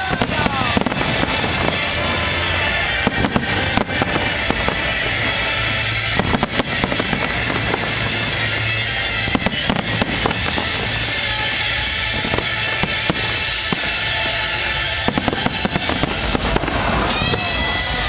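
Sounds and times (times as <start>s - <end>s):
background music: 0.0s - 18.0s
fireworks bangs and crackles: 0.0s - 18.0s.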